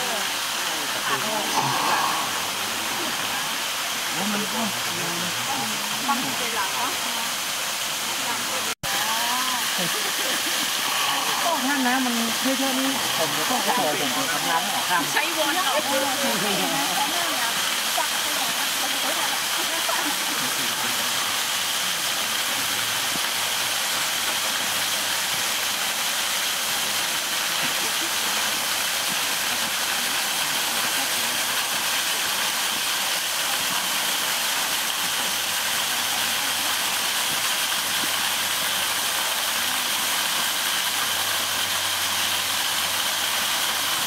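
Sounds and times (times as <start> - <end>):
rushing water of stream and waterfall: 0.0 - 44.0.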